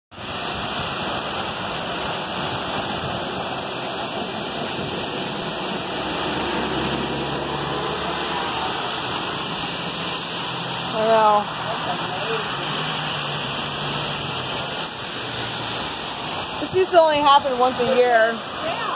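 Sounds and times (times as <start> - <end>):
bus ploughing through water: 0.1 - 18.9
heavy rain: 0.1 - 18.9
running floodwater: 0.1 - 18.9.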